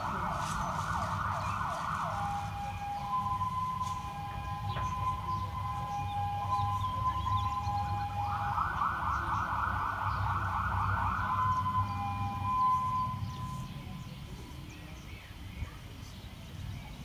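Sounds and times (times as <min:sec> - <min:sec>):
fire engine siren: 0:00.0 - 0:14.2.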